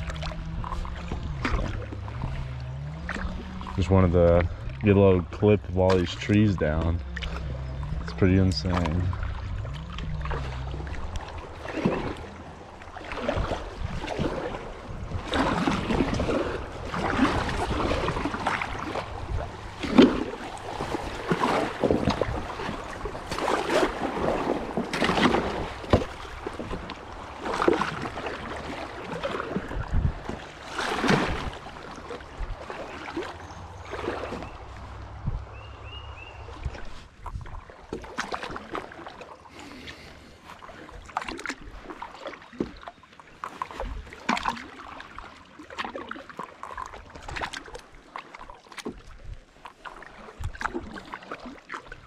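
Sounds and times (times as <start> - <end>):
paddle strokes in water: 0.0 - 52.0.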